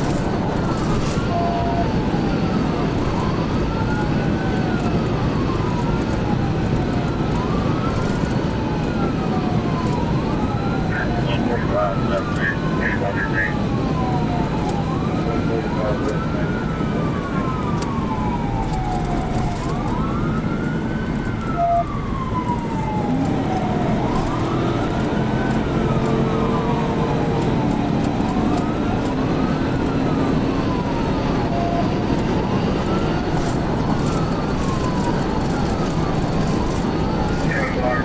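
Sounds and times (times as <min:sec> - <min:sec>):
police siren wailing: 0:00.0 - 0:38.0
road and engine noise: 0:00.0 - 0:38.0.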